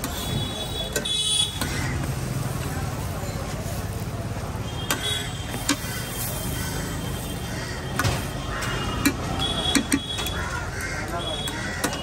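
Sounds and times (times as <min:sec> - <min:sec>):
street noise hum: 0:00.0 - 0:12.0.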